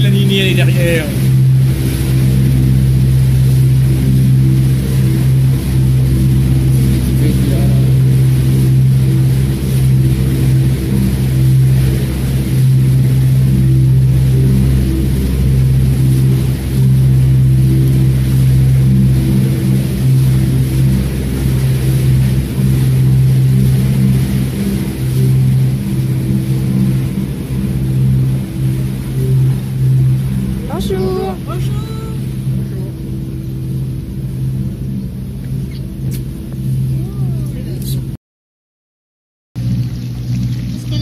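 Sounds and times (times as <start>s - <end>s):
boat engine droning: 0.0s - 38.2s, 39.6s - 41.0s.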